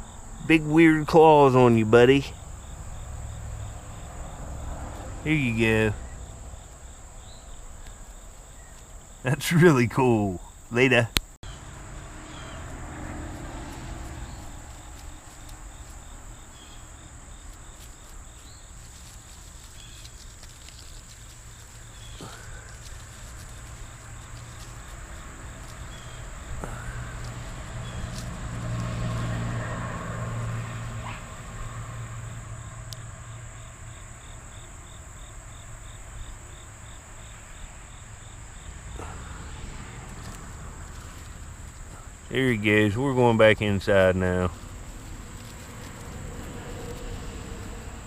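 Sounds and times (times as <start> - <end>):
insects chirping and trilling: 0.0 - 48.0.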